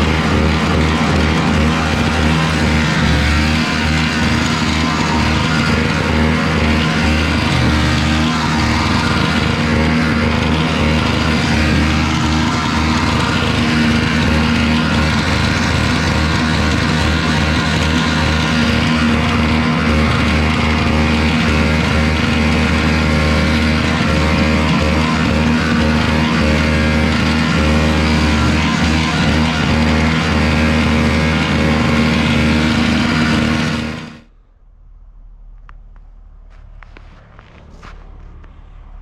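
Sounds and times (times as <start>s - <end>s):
rock music with guitar: 0.0s - 34.3s
snowblower engine running: 0.0s - 34.3s.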